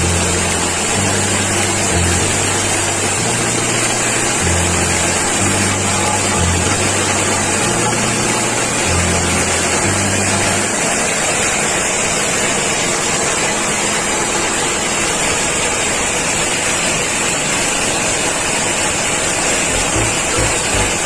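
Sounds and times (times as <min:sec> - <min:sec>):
forage chopper running: 0:00.0 - 0:21.0.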